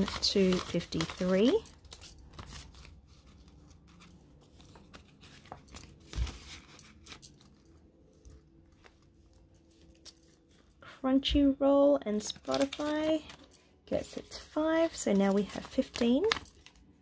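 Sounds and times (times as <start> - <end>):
plastic pockets crinkling: 0.0 - 10.8, 12.2 - 17.0.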